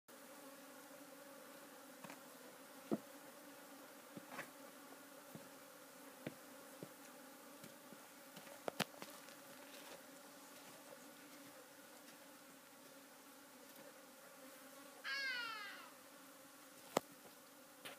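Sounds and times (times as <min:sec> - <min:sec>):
insects buzzing: 0:00.1 - 0:17.9.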